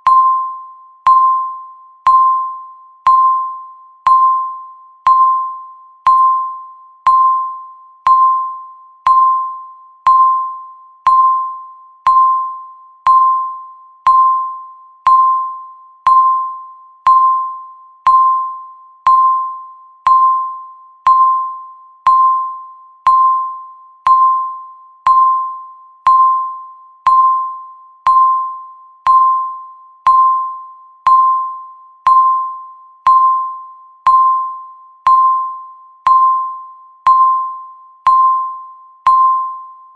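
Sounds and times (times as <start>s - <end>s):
timer beep high ding: 0.0s - 39.9s.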